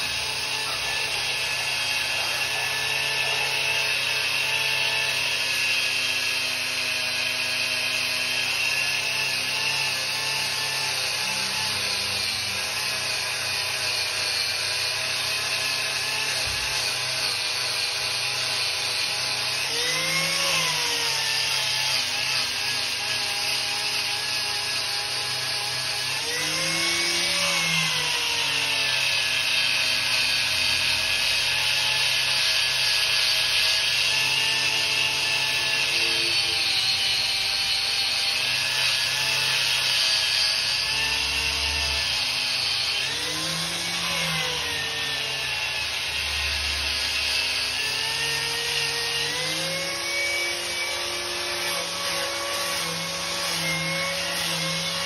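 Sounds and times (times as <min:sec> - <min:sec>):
angle grinder sanding wood: 0:00.0 - 0:55.0.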